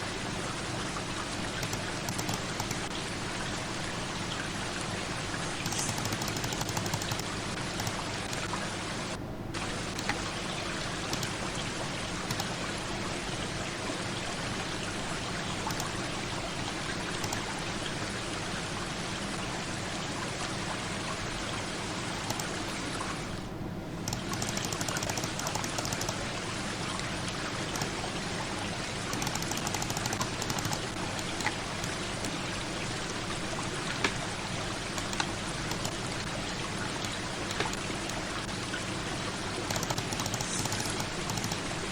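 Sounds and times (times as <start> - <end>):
rushing water: 0.0 - 41.9.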